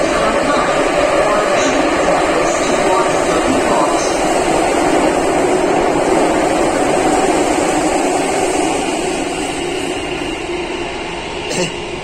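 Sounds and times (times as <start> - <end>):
train rumbling through tunnel: 0.0 - 12.0.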